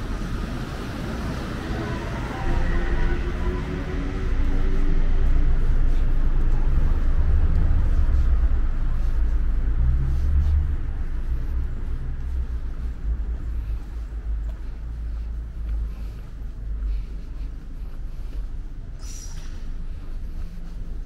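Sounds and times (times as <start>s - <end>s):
loud low rumble: 0.0s - 21.0s.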